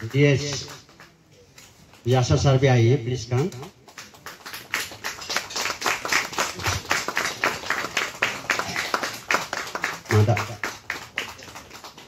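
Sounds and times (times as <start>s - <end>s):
hands clapping: 0.0s - 2.2s, 3.4s - 12.0s.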